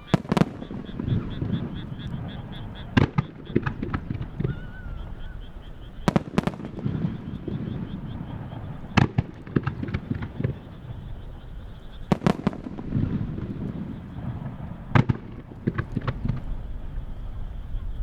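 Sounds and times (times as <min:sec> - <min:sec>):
fireworks crackling: 0:00.0 - 0:18.0
rumble of echoing booms: 0:00.0 - 0:18.0.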